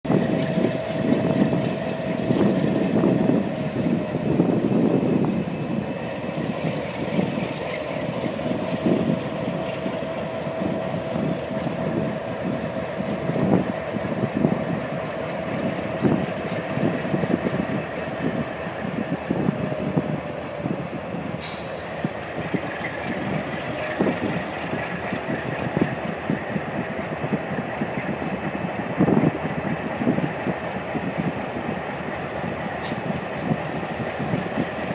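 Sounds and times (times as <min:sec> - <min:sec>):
diesel locomotives growling: 0:00.0 - 0:34.9.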